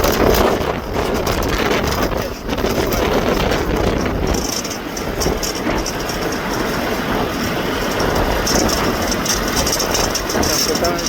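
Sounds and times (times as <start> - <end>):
wind buffeting truck: 0.0 - 11.0.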